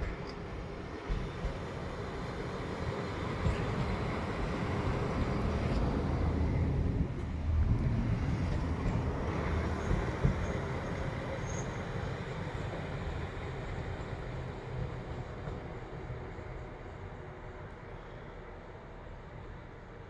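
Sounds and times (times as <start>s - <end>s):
diesel locomotive engine passing: 0.0s - 20.0s.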